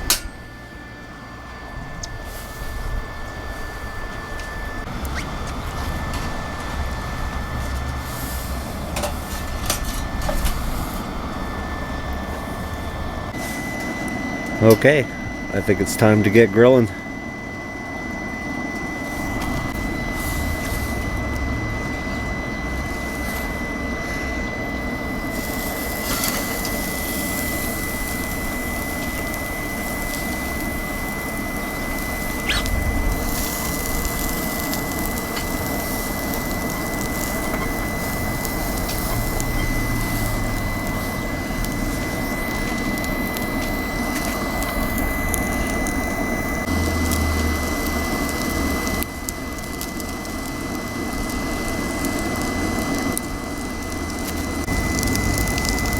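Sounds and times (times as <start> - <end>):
fan whining: 0.0 - 55.9
wood fire rushing: 0.0 - 55.9.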